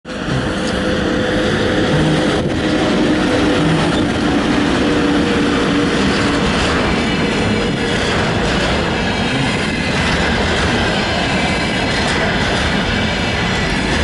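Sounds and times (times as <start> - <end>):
electric locomotive rumbling: 0.0 - 14.0.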